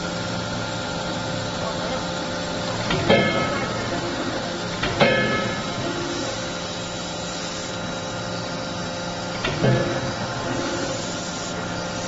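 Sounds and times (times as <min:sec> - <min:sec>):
hydraulic system hum: 0:00.0 - 0:12.0.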